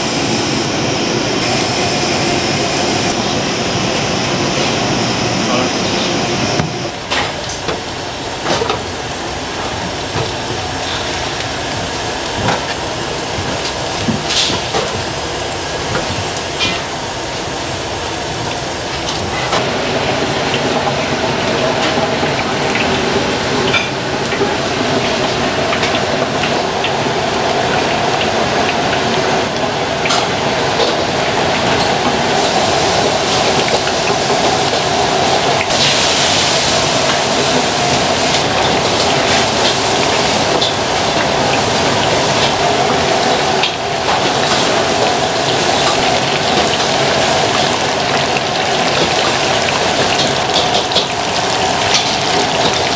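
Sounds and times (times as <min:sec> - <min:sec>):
kitchen hum: 0:00.0 - 0:52.9
fish deep-frying in oil: 0:06.9 - 0:52.9.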